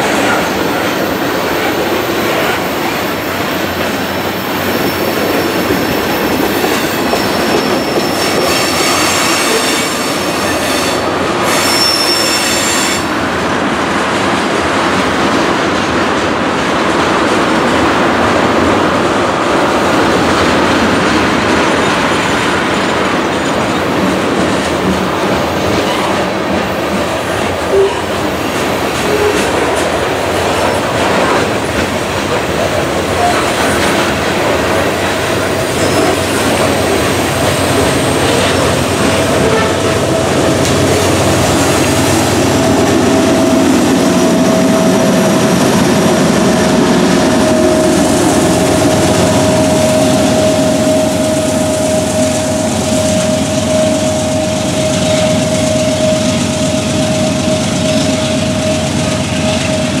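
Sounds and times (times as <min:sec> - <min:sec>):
freight train rolling past: 0:00.0 - 1:00.0
train wheels clacking over rails: 0:00.0 - 1:00.0.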